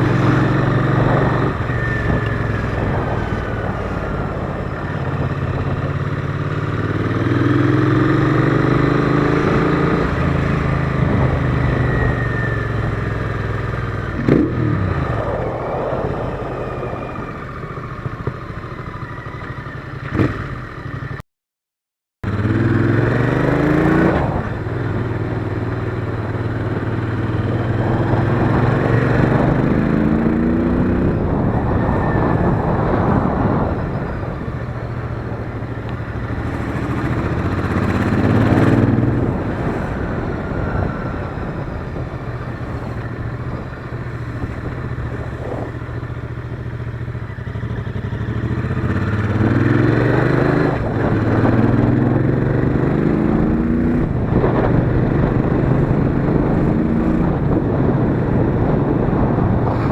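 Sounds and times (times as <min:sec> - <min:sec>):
motorcycle engine accelerating: 0:00.0 - 0:21.2, 0:22.2 - 0:59.9.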